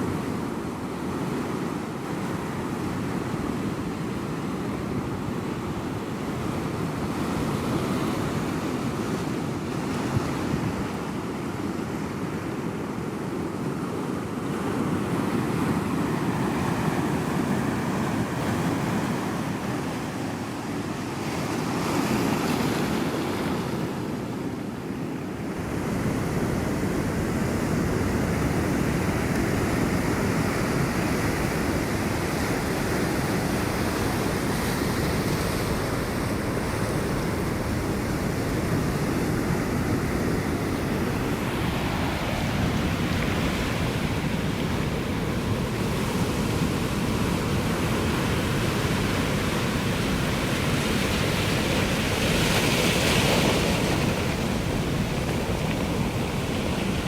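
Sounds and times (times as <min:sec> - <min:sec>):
ocean surf breaking on shore: 0:00.0 - 0:57.0.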